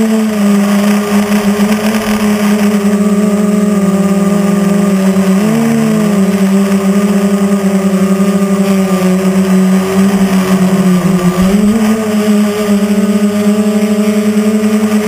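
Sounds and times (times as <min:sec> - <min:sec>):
drone motors buzzing: 0:00.0 - 0:15.0.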